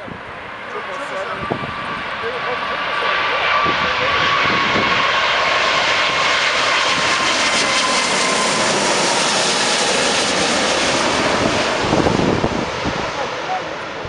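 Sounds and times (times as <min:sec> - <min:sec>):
jet engines passing overhead: 0:00.0 - 0:14.0.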